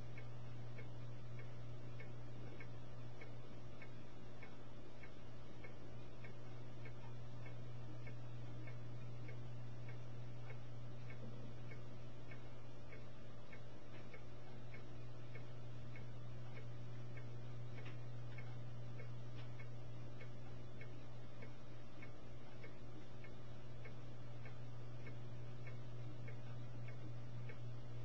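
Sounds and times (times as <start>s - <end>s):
faint ticks: 0.0s - 28.0s
low electrical hum: 0.0s - 28.0s.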